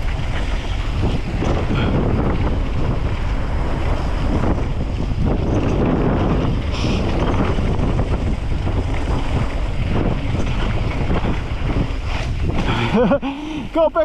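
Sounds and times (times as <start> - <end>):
bike rattling on dirt trail: 0.0 - 14.0
wind buffeting microphone: 0.0 - 14.0.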